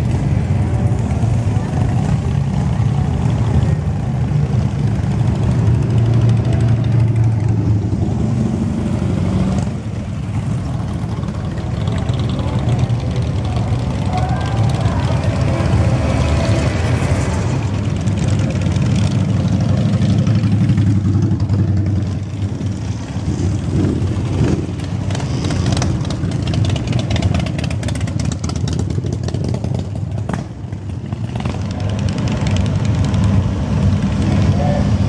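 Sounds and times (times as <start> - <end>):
motorcycles riding slowly past: 0.0 - 35.0.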